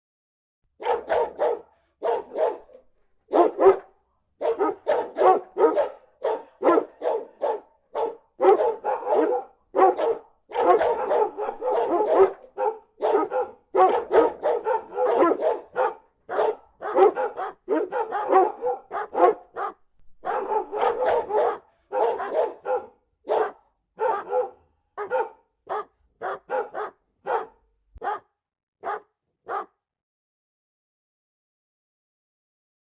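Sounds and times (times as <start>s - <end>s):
dogs barking: 0.8s - 29.7s.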